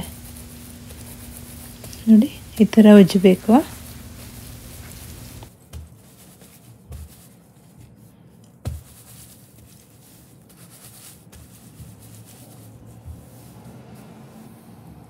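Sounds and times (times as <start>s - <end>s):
nuts rubbed in cloth: 0.0s - 15.0s.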